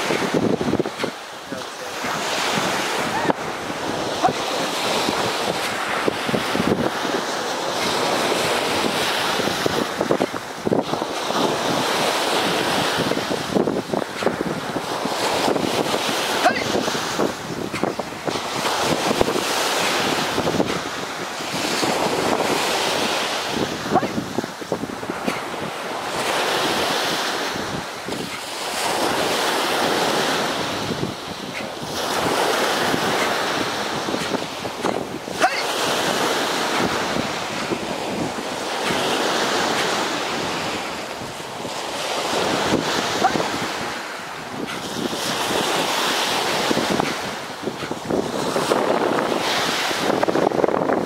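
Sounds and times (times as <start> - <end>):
surf breaking on a beach: 0.0 - 51.0
wind buffeting the microphone: 0.0 - 51.0.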